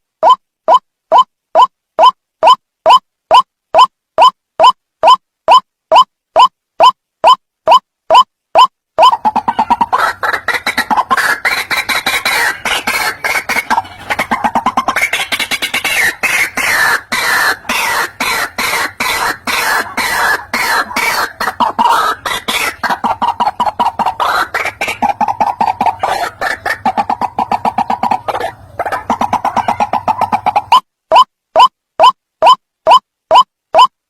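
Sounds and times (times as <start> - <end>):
waterhen croaking call: 0.2 - 33.9.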